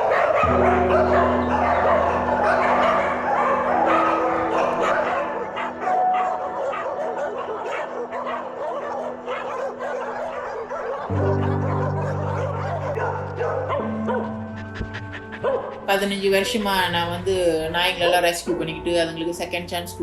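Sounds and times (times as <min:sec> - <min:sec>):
many dogs barking and yipping: 0:00.0 - 0:19.3
background music with low notes: 0:00.0 - 0:20.0.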